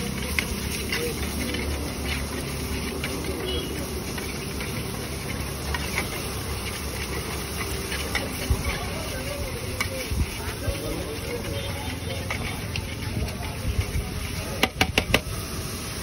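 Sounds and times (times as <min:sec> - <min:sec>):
spatula scraping on iron griddle: 0:00.0 - 0:15.2
food sizzling: 0:00.0 - 0:16.0.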